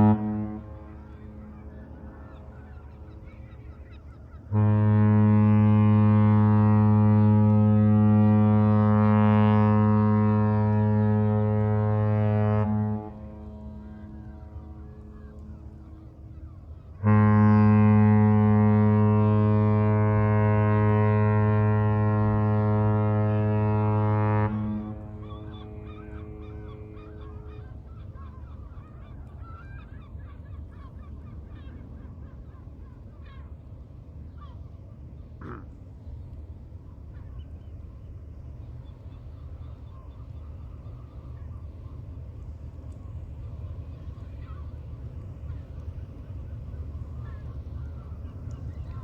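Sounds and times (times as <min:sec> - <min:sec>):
ship horn blast: 0:00.0 - 0:29.4, 0:31.8 - 0:49.0.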